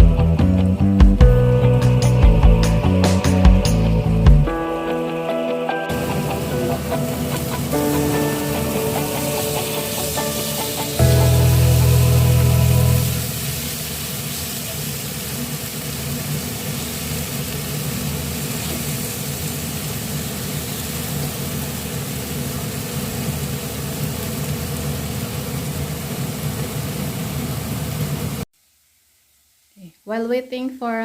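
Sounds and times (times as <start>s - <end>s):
even hiss: 0.0s - 31.0s.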